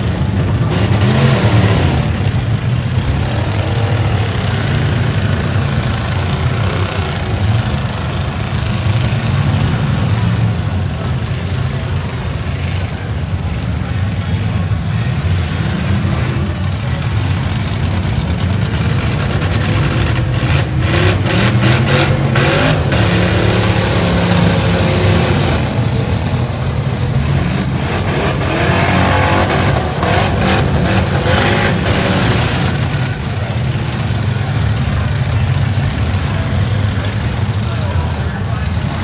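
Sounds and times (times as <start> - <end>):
car engines revving: 0.0 - 39.0
cars crashing: 0.0 - 39.0.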